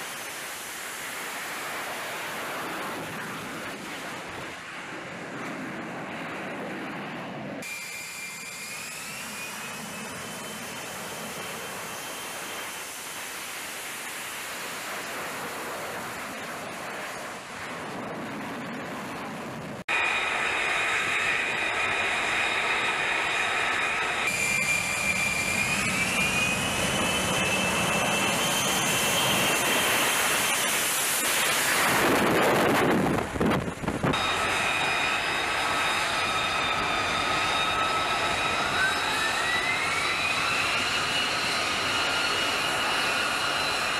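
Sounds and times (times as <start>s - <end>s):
jet engine whine and roar: 0.0s - 43.9s.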